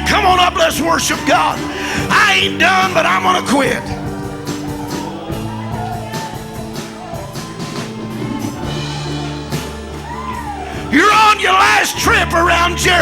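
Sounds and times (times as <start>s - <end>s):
band playing rock music: 0.0s - 13.0s
drum hits: 0.0s - 13.0s
held keyboard chords: 0.0s - 13.0s.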